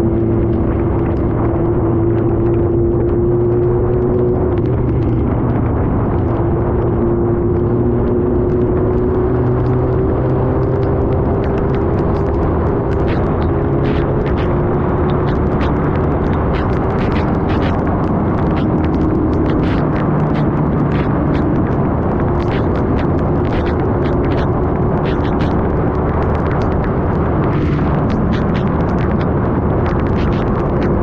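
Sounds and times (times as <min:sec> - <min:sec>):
motorcycle engine running: 0:00.0 - 0:31.0
road rumble: 0:00.0 - 0:31.0
wind: 0:00.0 - 0:31.0
sharp ticks: 0:00.2 - 0:31.0.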